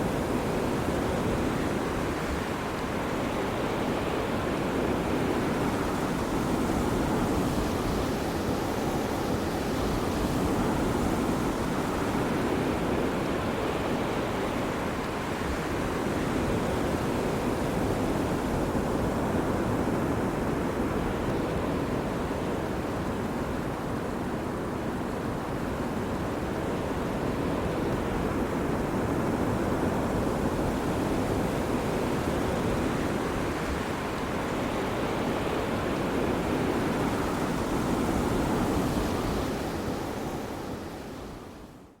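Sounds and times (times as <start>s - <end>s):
ocean waves breaking on beach: 0.0s - 42.0s
wind: 0.0s - 42.0s.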